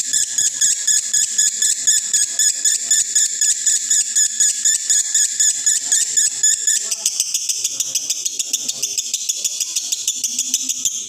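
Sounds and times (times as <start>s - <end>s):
lovebird chattering shrill chirps: 0.1s - 11.0s.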